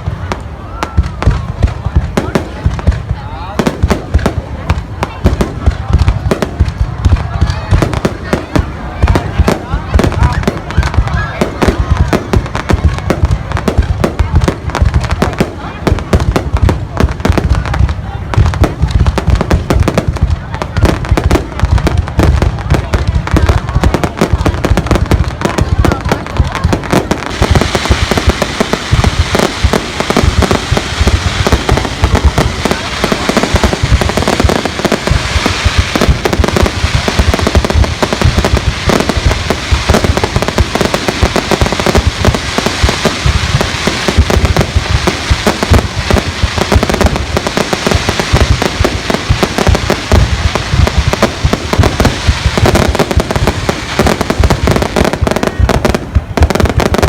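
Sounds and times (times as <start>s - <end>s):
deep fireworks booms: 0.0s - 57.0s
fireworks bangs and crackles: 0.0s - 57.0s.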